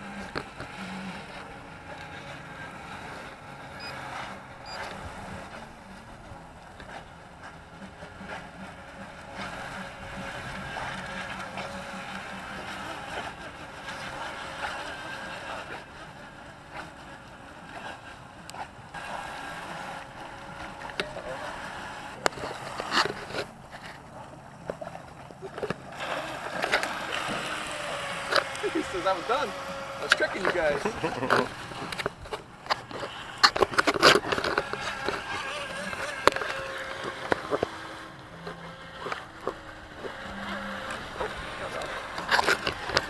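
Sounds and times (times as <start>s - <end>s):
electric motors whining: 0.0s - 43.0s.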